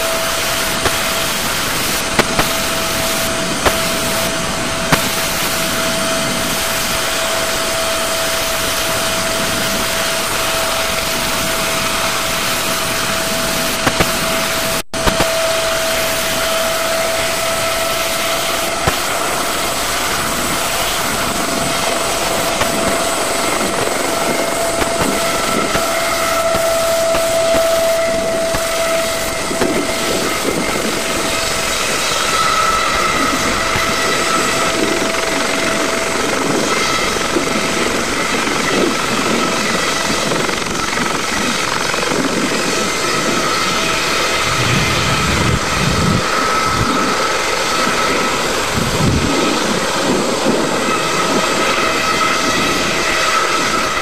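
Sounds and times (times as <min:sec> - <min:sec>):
helicopter turbine whine: 0:00.0 - 0:54.0.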